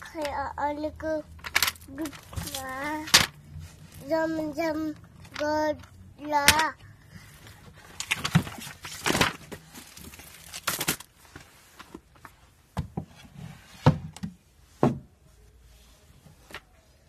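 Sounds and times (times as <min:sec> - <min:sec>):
books knocking and rustling on shelf: 0:01.4 - 0:15.3, 0:16.0 - 0:17.0.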